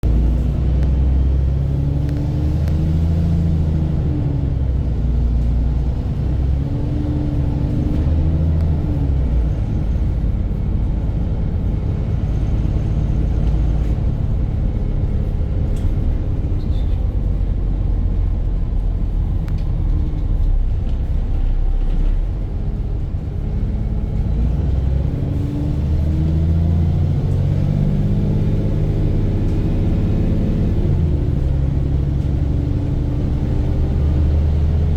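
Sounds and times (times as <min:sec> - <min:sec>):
diesel bus engine rumbling: 0:00.0 - 0:34.9.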